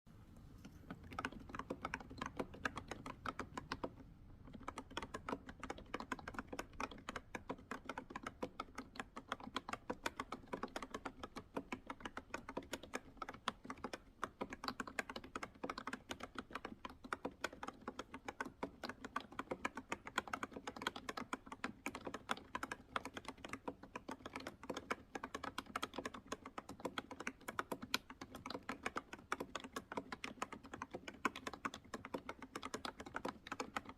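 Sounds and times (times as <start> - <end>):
mechanical keyboard typing: 0.9 - 33.9.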